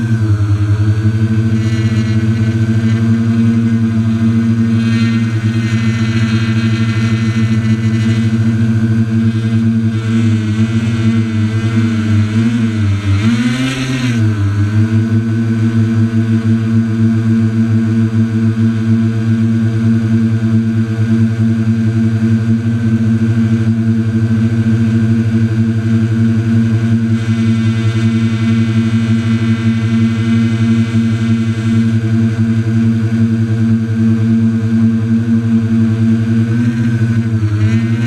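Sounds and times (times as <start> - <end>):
drone propellers whirring: 0.0 - 38.0.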